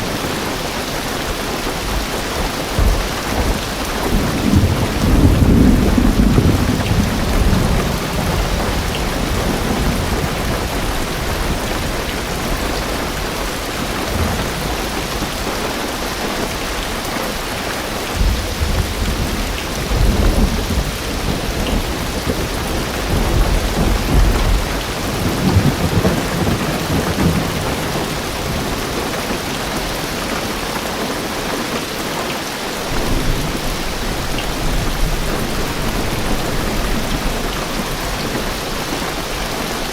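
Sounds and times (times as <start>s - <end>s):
heavy rain on car roof: 0.0s - 39.9s
thunder rumbling: 1.2s - 30.6s, 32.9s - 39.9s.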